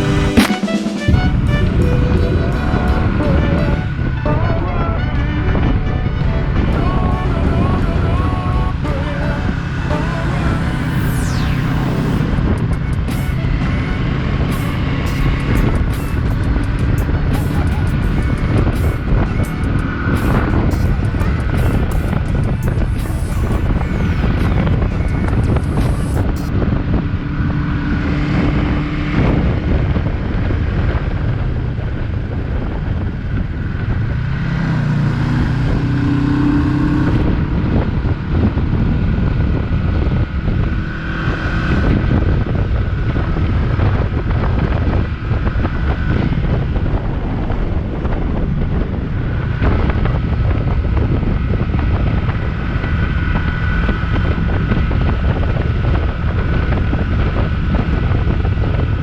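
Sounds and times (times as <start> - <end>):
motorcycle engine running: 0.0 - 4.4, 5.2 - 59.0
wind buffeting microphone: 1.1 - 59.0.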